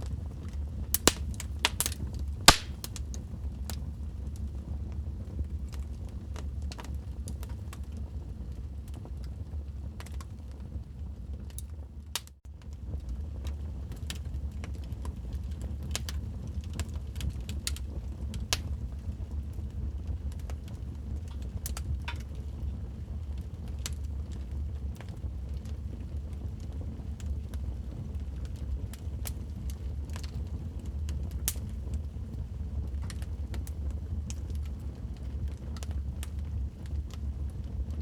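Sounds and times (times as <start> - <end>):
wood fire crackling: 0.0 - 38.0
sharp pops and snaps of fire: 0.4 - 9.3, 10.0 - 10.6, 11.4 - 38.0.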